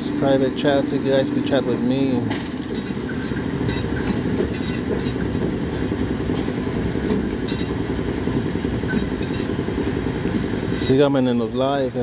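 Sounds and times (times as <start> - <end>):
engine running low rumble: 0.0 - 12.0.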